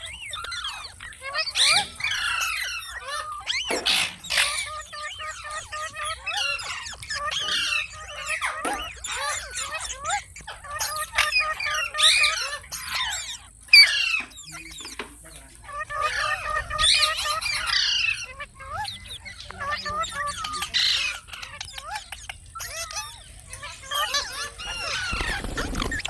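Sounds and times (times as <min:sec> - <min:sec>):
parrot chattering and squawking: 0:00.0 - 0:26.0.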